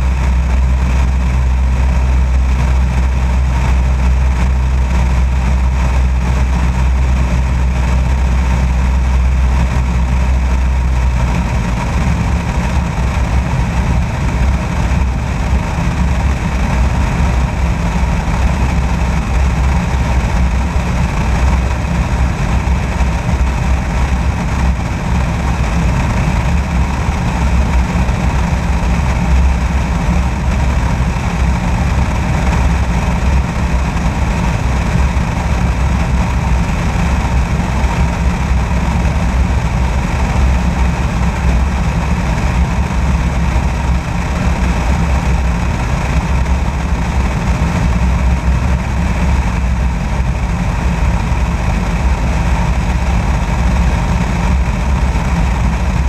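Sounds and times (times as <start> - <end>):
aircraft piston engine droning: 0.0 - 56.0
airflow noise on microphone: 0.0 - 56.0.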